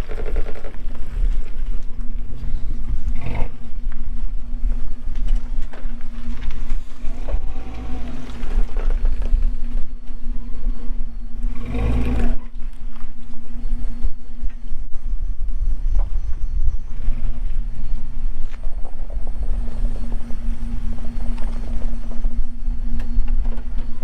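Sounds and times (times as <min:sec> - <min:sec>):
vehicle engine idling: 0:00.0 - 0:24.0
wind buffeting microphone: 0:00.0 - 0:24.0.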